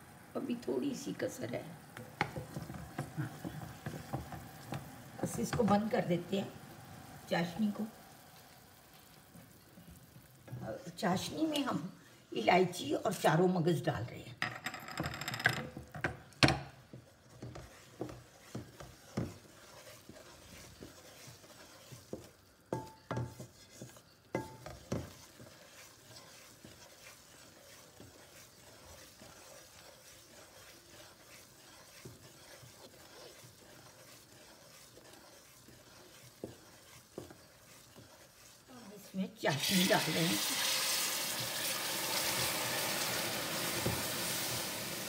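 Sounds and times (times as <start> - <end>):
faint sizzle: 0.0 - 14.2, 16.3 - 45.0
wooden spatula scraping metal pot: 0.1 - 45.0.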